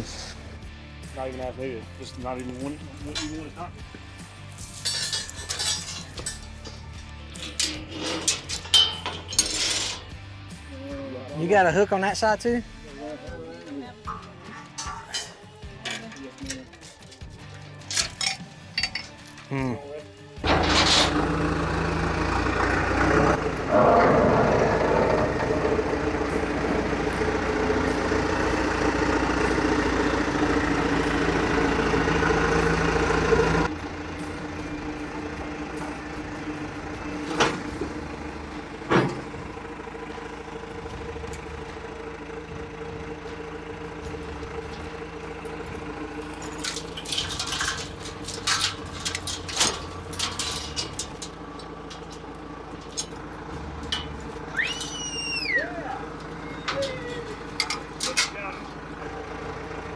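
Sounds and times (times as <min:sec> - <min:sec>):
engine running: 0:00.0 - 0:59.9
flurry of clanks: 0:02.0 - 0:10.2, 0:14.1 - 0:19.5, 0:20.4 - 0:40.0, 0:40.7 - 0:55.3, 0:55.9 - 0:59.2.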